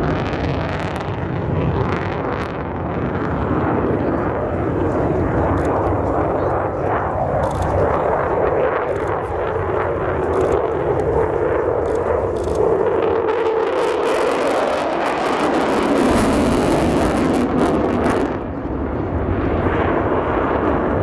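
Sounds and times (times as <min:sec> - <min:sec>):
fighter jet engine roar: 0:00.0 - 0:21.0.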